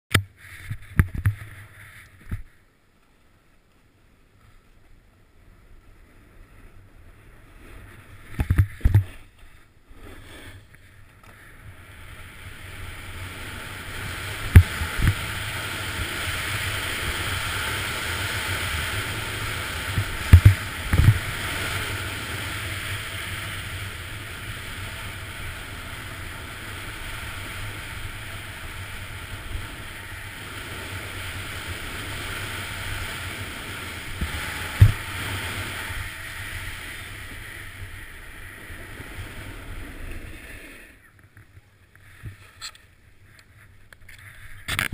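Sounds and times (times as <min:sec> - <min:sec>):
wind over camera: 0:00.1 - 0:02.6, 0:05.5 - 0:44.9
snowboard sliding on packed snow: 0:00.4 - 0:02.6, 0:04.4 - 0:44.9.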